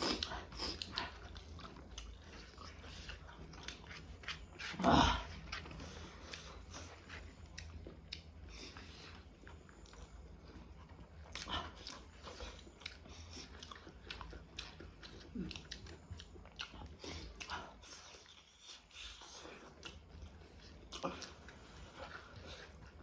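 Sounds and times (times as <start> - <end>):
person chewing and smacking: 0.0 - 23.0.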